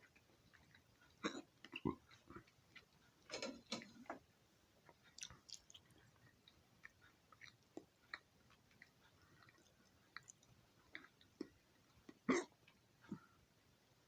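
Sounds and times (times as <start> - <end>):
soft rustles of food: 0.0 - 14.0.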